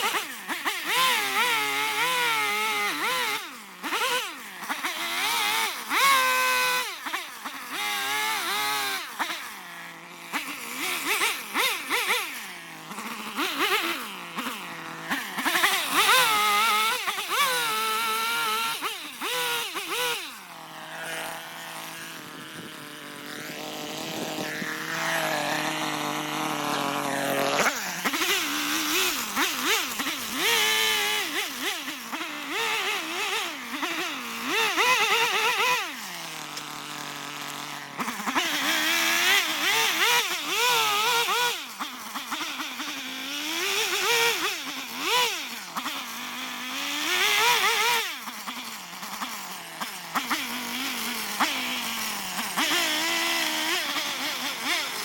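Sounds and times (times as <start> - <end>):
chainsaw revving cutting wood: 0.0 - 55.0.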